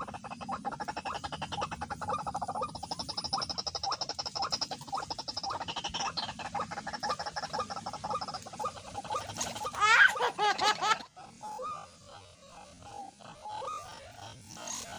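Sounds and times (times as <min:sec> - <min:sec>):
croaking animal calls: 0:00.0 - 0:14.9.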